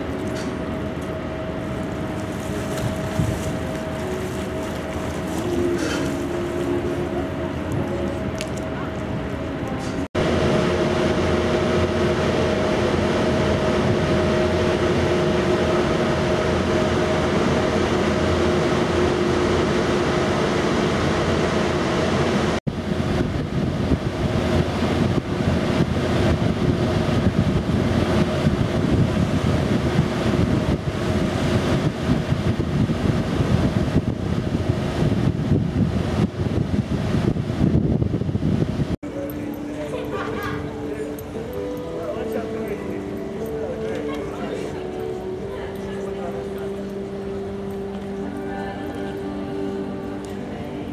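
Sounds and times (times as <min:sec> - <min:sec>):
ship machinery humming: 0:00.0 - 0:50.9.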